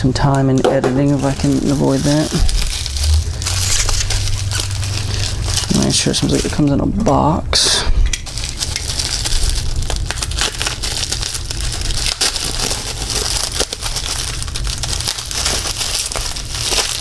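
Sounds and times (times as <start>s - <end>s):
packaging crinkling: 0.0s - 6.8s, 8.2s - 17.0s.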